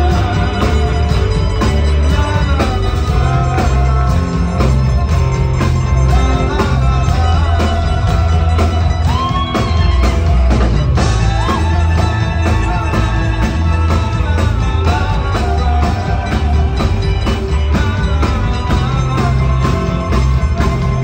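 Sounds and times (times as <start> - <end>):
man singing into microphone: 0.0 - 5.1, 5.9 - 10.0, 11.0 - 21.0
live rock band playing: 0.0 - 21.0.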